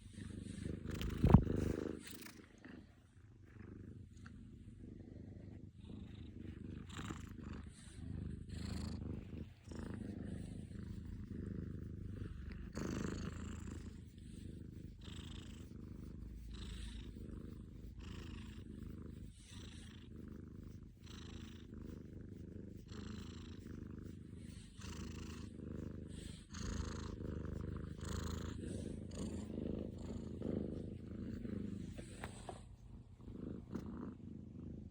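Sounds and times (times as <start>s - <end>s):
cat snoring: 0.0s - 2.8s, 3.6s - 34.9s.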